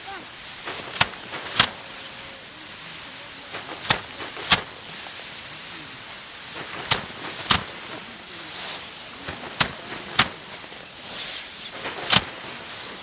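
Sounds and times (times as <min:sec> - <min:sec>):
rice stalks thwacking hard surface: 0:00.0 - 0:02.0, 0:03.5 - 0:05.4, 0:06.0 - 0:13.0.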